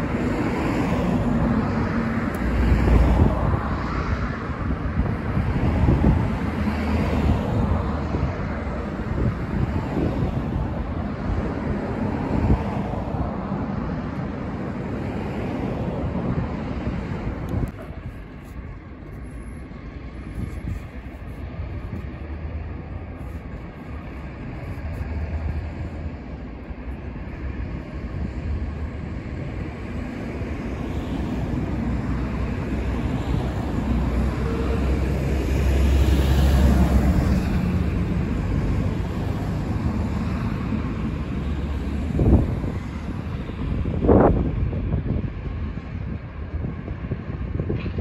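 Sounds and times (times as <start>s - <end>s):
train passing rumble: 0.0s - 48.0s.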